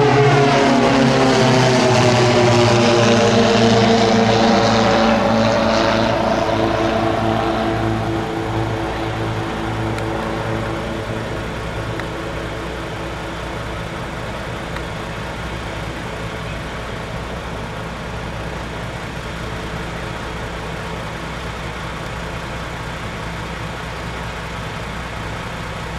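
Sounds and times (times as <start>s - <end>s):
engine running steadily: 0.0s - 25.9s.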